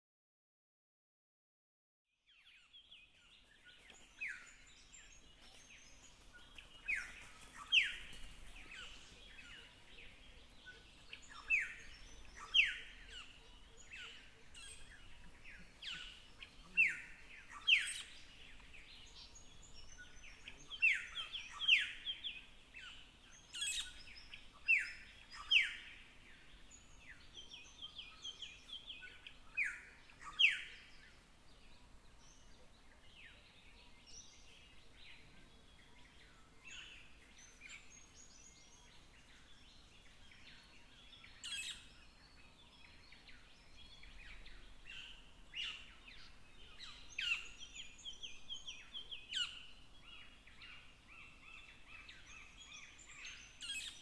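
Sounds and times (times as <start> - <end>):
faint bird chirps: 2.2 - 54.0.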